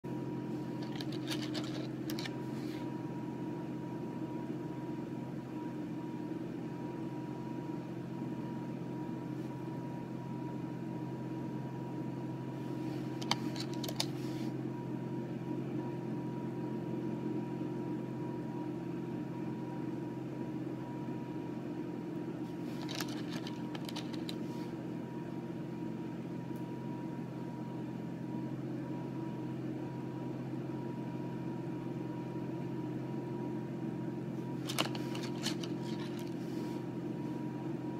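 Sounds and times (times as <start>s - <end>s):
low background hum with tone: 0.0s - 37.9s.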